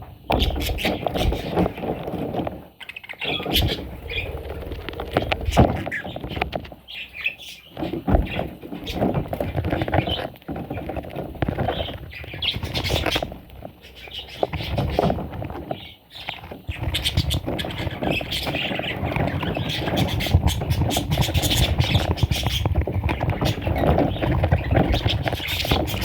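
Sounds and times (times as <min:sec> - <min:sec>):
rustling: 0:00.3 - 0:26.0
parrots squawking and chirping: 0:00.4 - 0:02.2, 0:02.8 - 0:10.8, 0:11.5 - 0:26.0.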